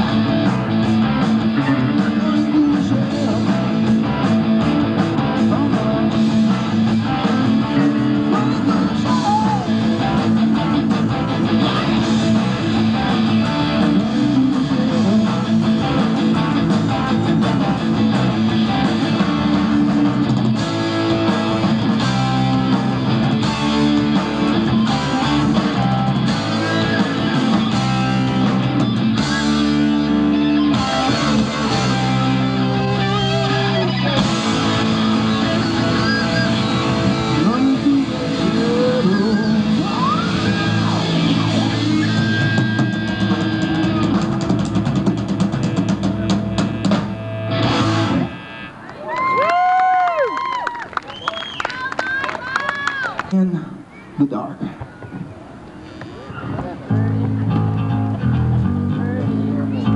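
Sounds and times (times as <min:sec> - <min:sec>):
rock band playing live: 0:00.0 - 0:48.8, 0:56.8 - 0:59.9.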